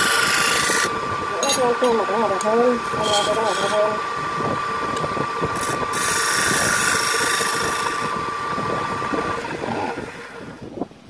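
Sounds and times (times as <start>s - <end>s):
lathe motor whining: 0.0s - 10.7s.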